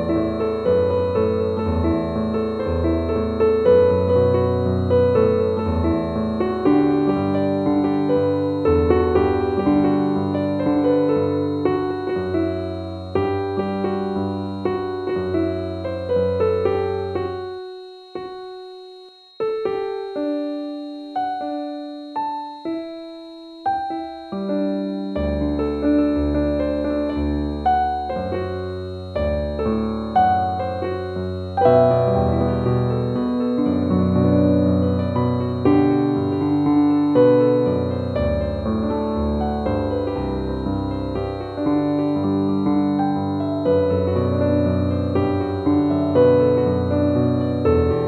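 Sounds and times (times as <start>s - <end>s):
piano music: 0.0s - 48.0s
steady high tone: 0.0s - 48.0s.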